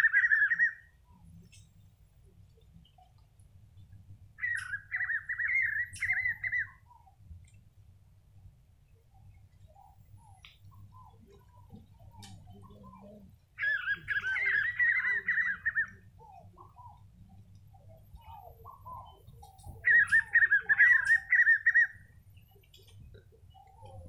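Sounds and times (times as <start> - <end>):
bird whistling song: 0.0 - 1.7, 4.4 - 7.2, 9.1 - 24.0
faint bird calls: 0.0 - 7.8, 8.4 - 24.0.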